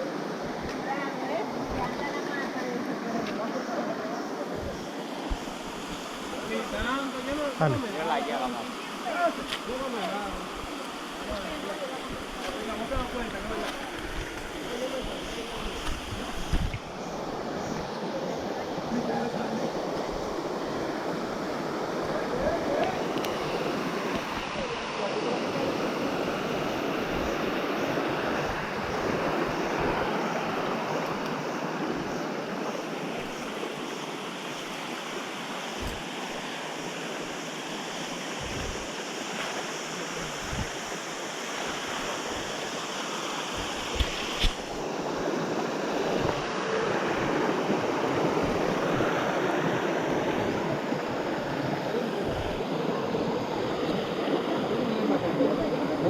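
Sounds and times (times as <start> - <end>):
waterfall and river rushing: 0.0 - 56.0.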